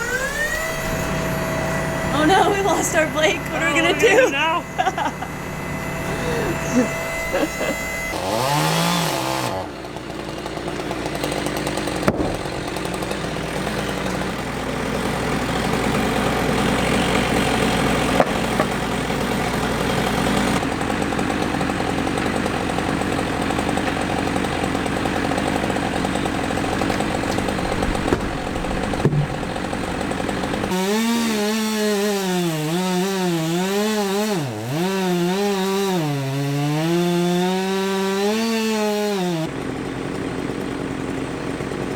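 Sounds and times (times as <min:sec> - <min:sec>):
chainsaw engine revving: 0:00.0 - 0:41.9
chainsaws cutting wood: 0:00.0 - 0:41.9.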